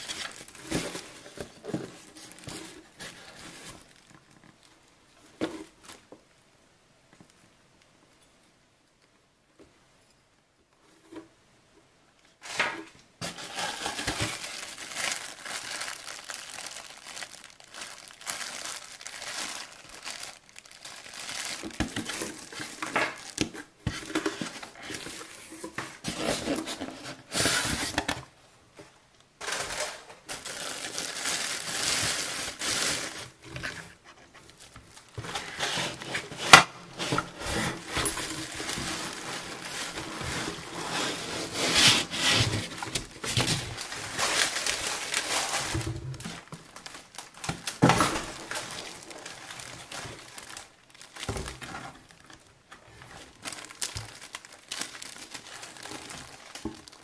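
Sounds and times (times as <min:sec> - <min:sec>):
plastic bag crinkling: 0:00.0 - 0:04.9, 0:13.2 - 0:28.2, 0:29.4 - 0:57.0.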